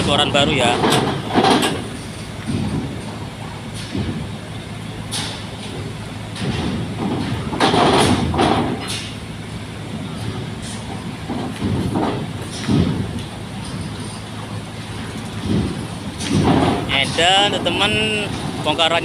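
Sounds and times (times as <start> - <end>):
car engines running: 0.0 - 19.0
steady low hum: 0.0 - 19.0.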